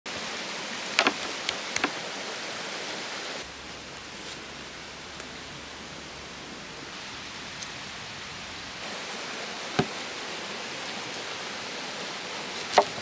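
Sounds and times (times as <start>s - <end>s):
rushing water: 0.1s - 13.0s.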